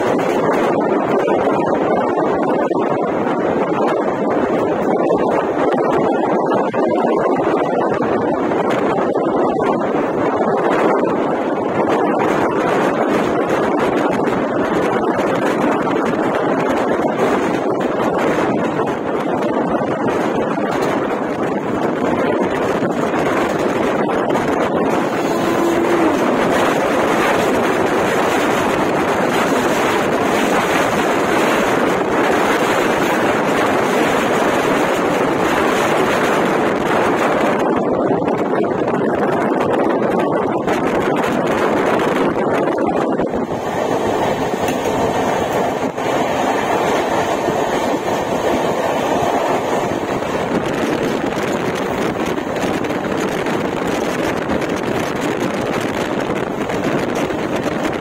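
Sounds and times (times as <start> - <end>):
passing train coaches: 0.0 - 58.0
rush of wind from train: 0.0 - 58.0
train wheels on rails: 0.0 - 58.0.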